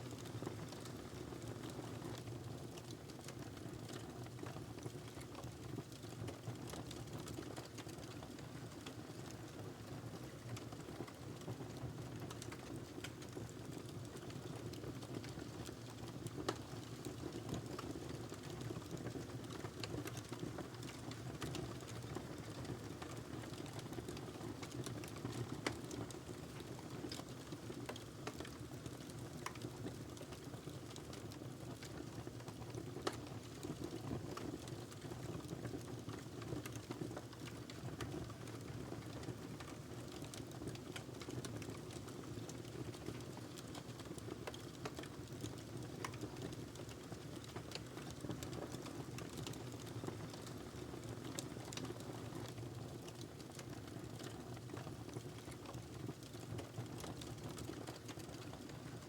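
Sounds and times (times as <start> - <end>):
wood fire crackling: 0.1 - 59.0.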